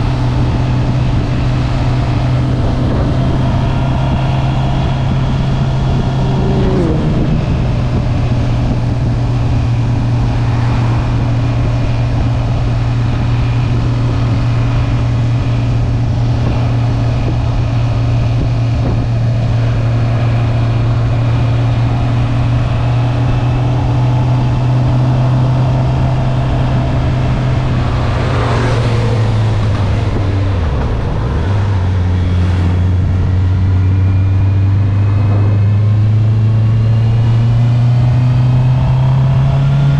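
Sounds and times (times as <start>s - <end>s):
motorcycle engine and exhaust: 0.0s - 39.9s
wind and road noise: 0.0s - 39.9s.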